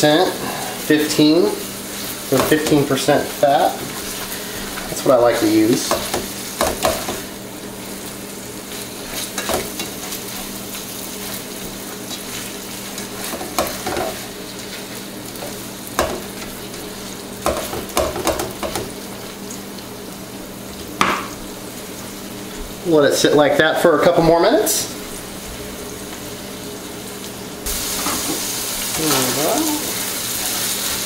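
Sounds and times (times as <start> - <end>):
ground beef sizzling in pan: 0.0 - 31.0.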